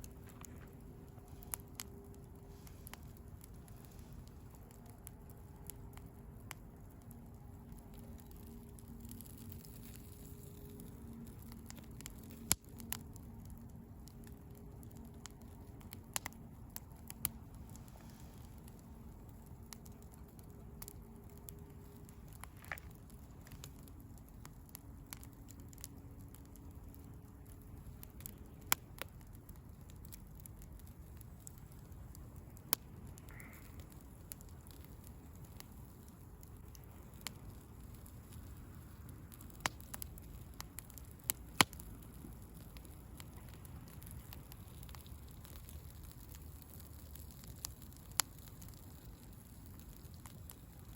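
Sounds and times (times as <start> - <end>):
bonfire crackling and popping: 0.0 - 50.9
low steady rumble: 0.0 - 50.9.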